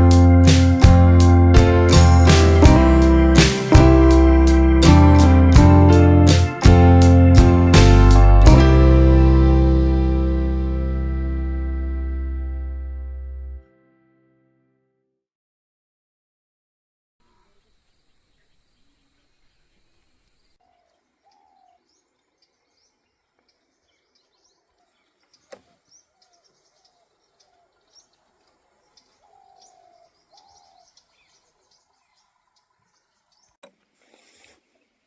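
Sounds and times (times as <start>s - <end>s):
birds chirping: 0.0s - 13.6s, 17.9s - 33.6s.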